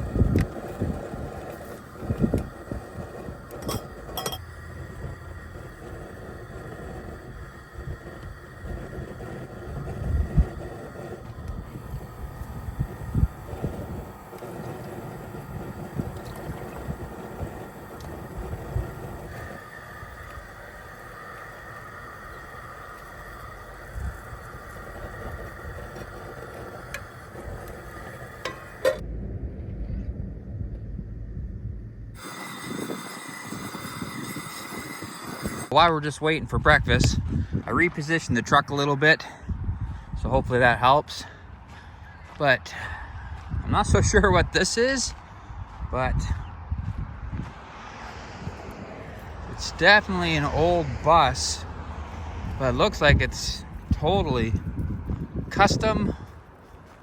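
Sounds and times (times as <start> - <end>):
low rumble: 0.0 - 32.3, 41.4 - 56.7
wind buffeting microphone: 0.0 - 57.0.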